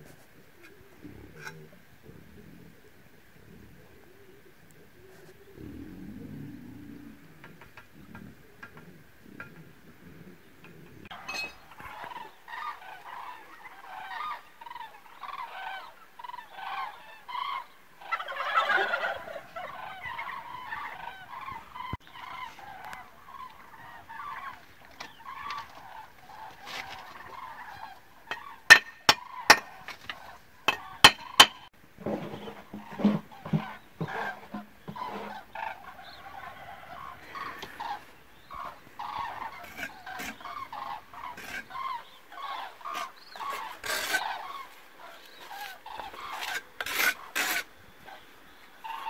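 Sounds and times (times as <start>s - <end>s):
flock of birds calling: 0.6s - 49.0s.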